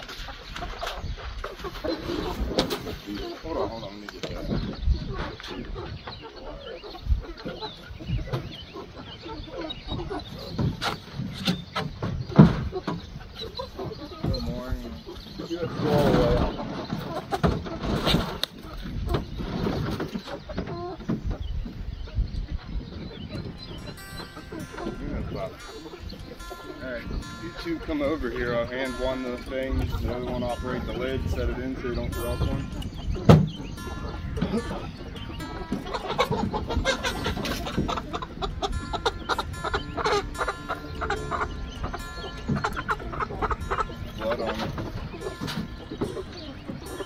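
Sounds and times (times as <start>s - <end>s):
chickens calling: 0.0s - 47.0s.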